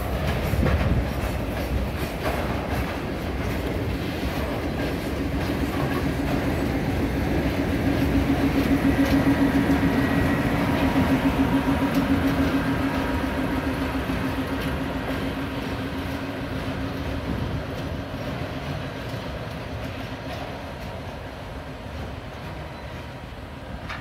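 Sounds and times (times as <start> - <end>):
diesel locomotive engine throbbing: 0.0 - 24.0
train wheels rumbling on rails: 0.0 - 24.0.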